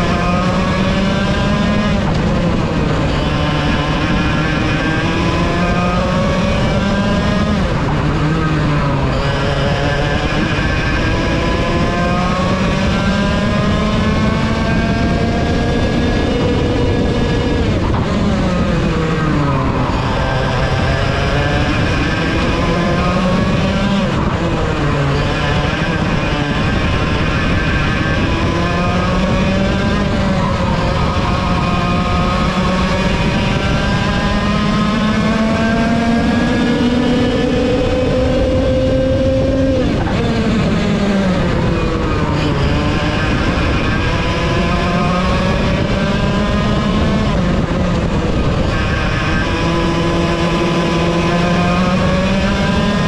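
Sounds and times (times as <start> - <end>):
kart engine revving: 0.0 - 53.0
other kart engines: 0.0 - 53.0.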